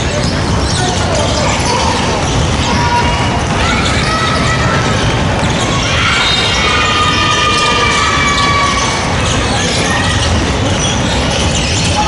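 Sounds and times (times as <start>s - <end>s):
high shoe squeaks: 0.0s - 12.0s.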